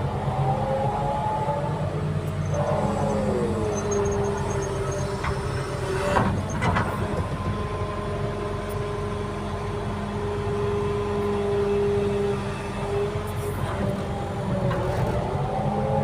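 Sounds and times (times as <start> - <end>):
earthmoving machine engine droning: 0.0 - 16.0.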